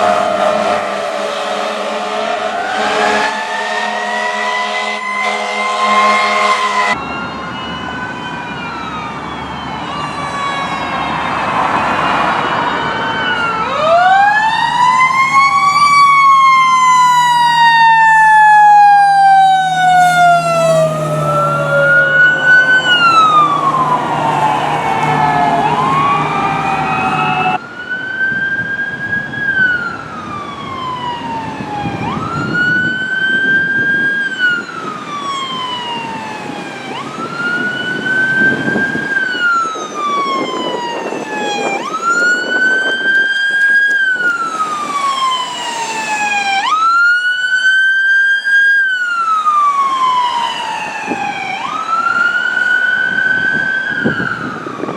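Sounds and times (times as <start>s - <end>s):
fire sirens wailing: 0.0s - 54.9s.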